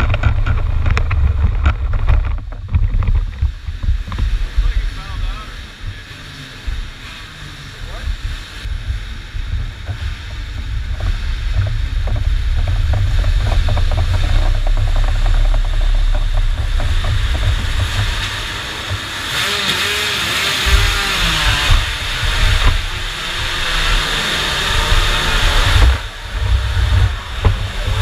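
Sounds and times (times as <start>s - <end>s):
wind rumble on microphone: 0.0s - 19.5s, 20.6s - 28.0s
distant kart engines: 0.0s - 28.0s
engine revving: 4.2s - 28.0s.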